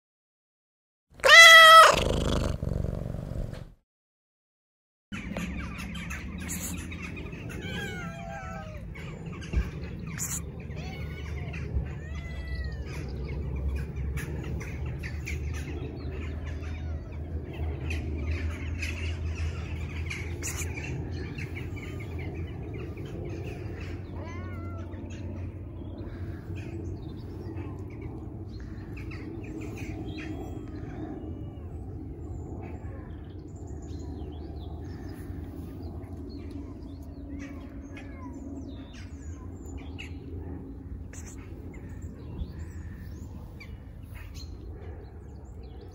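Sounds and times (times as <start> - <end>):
birds chirping and calling: 1.2 - 3.0, 5.2 - 45.9.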